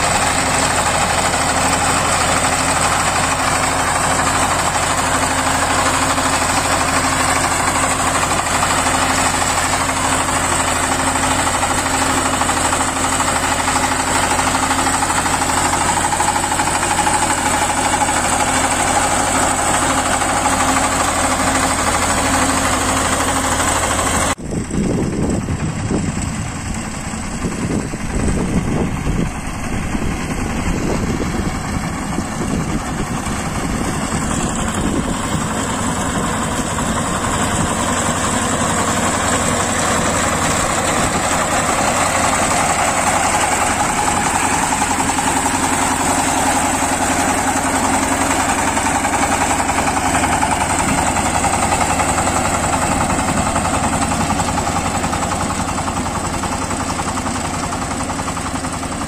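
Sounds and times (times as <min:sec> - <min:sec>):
power tiller engine running: 0:00.0 - 0:59.0.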